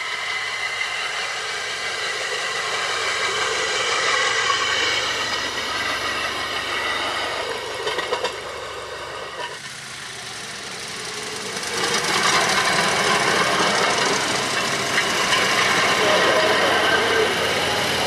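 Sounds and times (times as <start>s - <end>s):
rail speeder engines running: 0.0s - 18.0s.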